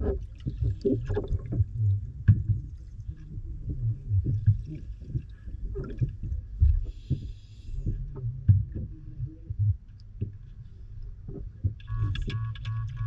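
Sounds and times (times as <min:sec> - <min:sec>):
muffled underwater thumps and rumbling: 0:00.0 - 0:13.0.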